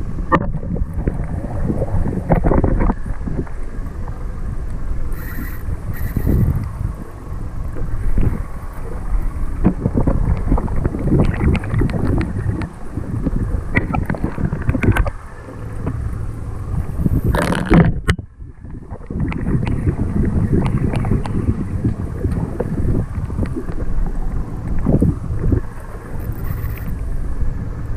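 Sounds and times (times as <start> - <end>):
rush of noise: 0.0 - 27.9
water sloshing against boat: 0.0 - 27.9
wind buffeting microphone: 0.0 - 27.9.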